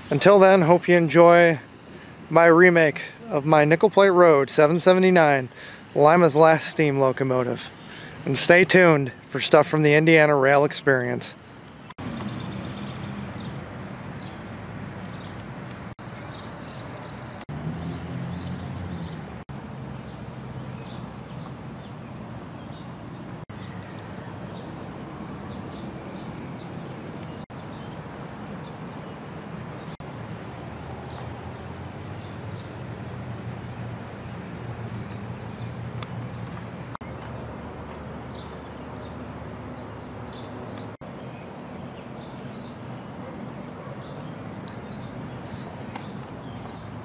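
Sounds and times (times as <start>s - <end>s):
small birds chirping: 0.0s - 4.0s, 4.6s - 9.3s, 11.3s - 19.4s, 20.0s - 47.0s.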